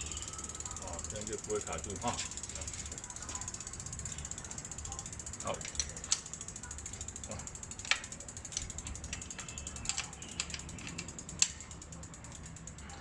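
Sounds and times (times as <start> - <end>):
bicycle wheel ratcheting ticks: 0.0 - 13.0.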